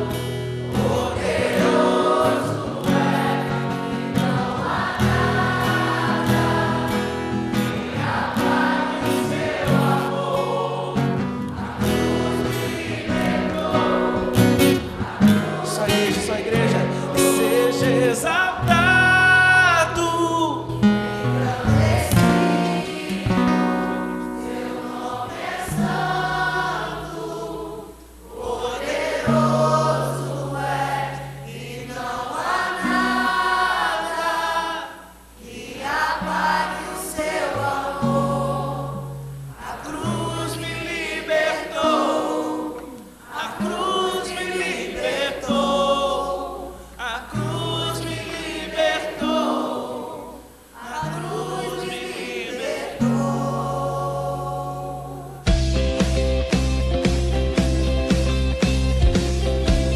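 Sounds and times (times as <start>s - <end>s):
worship band and congregation singing: 0.0s - 59.9s.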